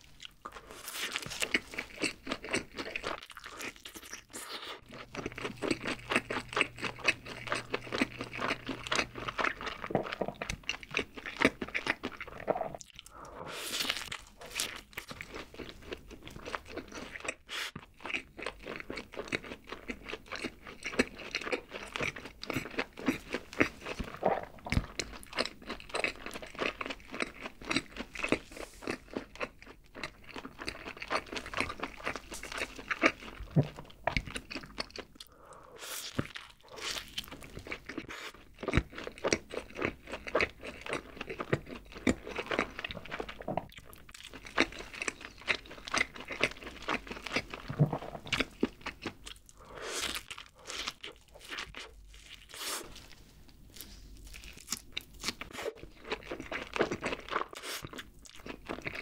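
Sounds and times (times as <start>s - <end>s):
chewing and biting a burger: 0.0s - 59.0s.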